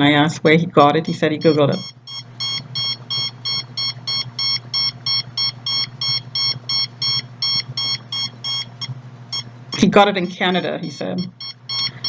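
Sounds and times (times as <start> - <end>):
low electrical hum: 0.0 - 12.0
meter alarm beeping rapidly: 0.9 - 12.0.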